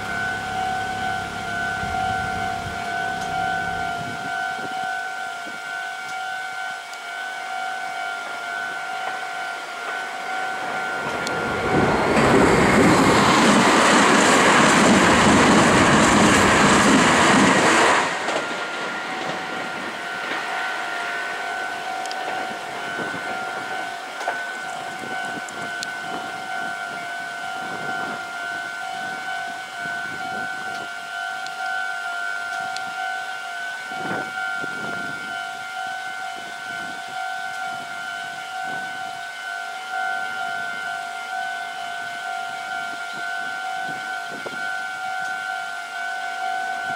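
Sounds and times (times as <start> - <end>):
electric train passing: 0.0 - 46.9
level crossing bell ringing: 0.0 - 46.9.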